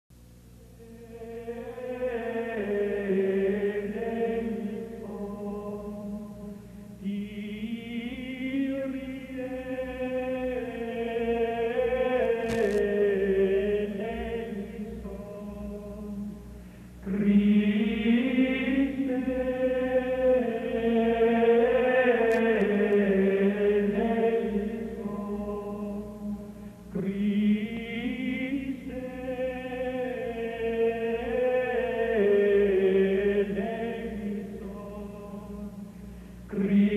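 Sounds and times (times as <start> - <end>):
choir singing slow chant: 0.8 - 16.4, 17.0 - 35.9, 36.5 - 36.9.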